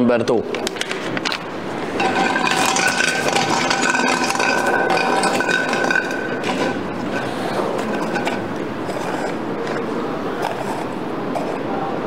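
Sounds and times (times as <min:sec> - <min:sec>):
balls rattling in a pot: 0:00.5 - 0:11.6
steady tones: 0:00.8 - 0:12.0.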